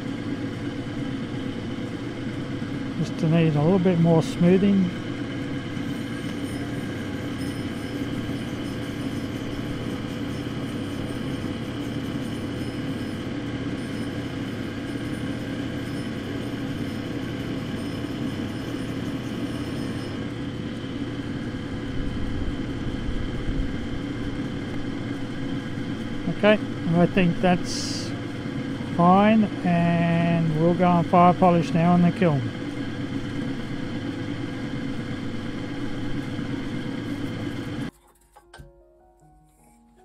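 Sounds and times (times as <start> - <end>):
grinding machine motor hum: 0.0 - 38.3.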